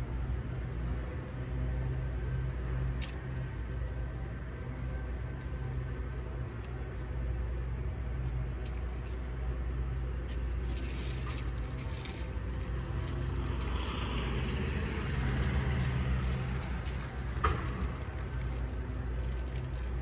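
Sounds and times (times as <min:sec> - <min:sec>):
road vehicle passing: 0:00.0 - 0:20.0
steady low rumble: 0:00.0 - 0:20.0.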